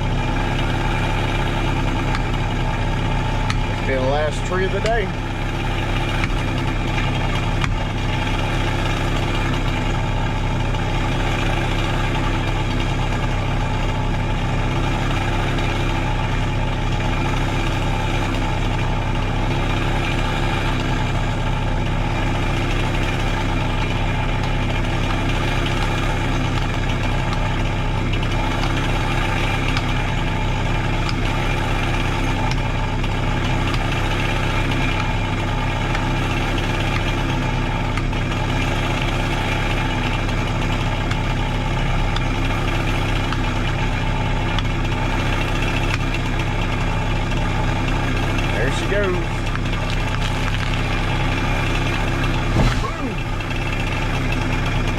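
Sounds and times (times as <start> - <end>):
skid steer engine idling: 0.0 - 54.9.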